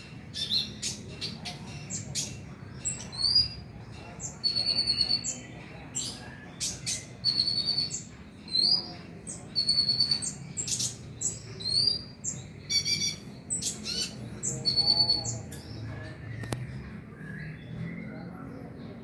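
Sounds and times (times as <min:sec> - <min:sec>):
sunbird singing high chirps: 0:00.3 - 0:18.7.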